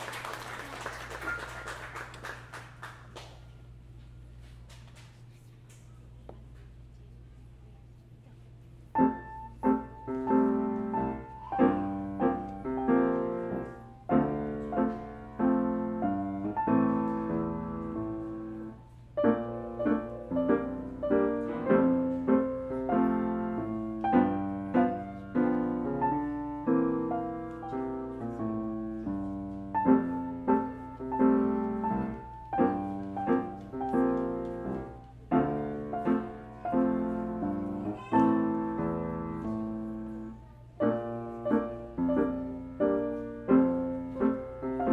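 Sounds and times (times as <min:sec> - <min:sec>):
piano duet: 0:08.9 - 0:44.9.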